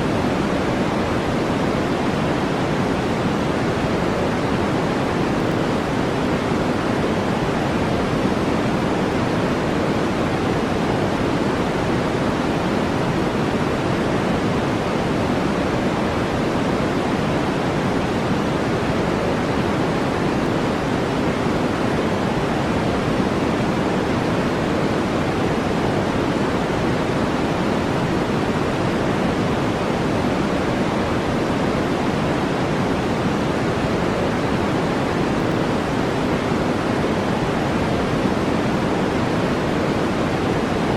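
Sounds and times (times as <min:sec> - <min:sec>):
brown noise hiss: 0:00.0 - 0:40.9.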